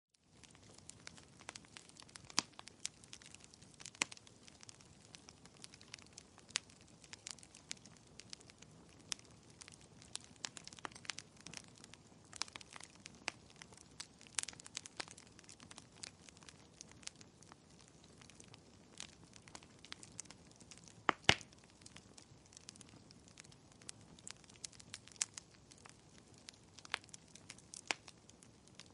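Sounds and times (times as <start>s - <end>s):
wood fire crackling: 0.2s - 28.9s.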